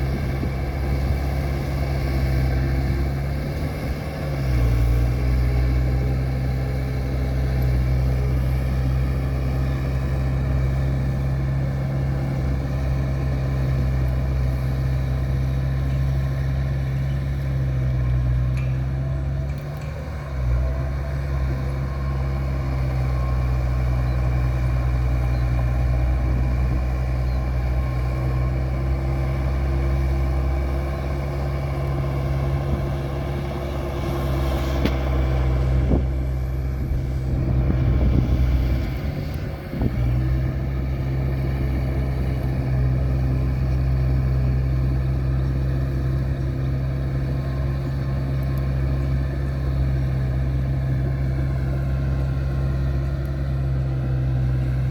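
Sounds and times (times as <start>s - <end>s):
heavy vehicle engine droning: 0.0s - 54.9s.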